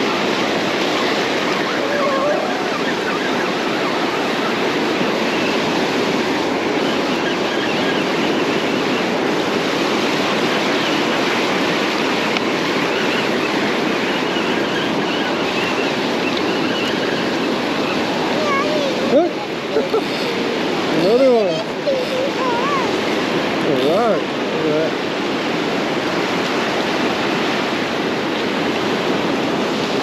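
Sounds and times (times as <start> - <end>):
foamy wash running up sand: 0.0 - 30.0
ocean waves breaking: 0.0 - 30.0.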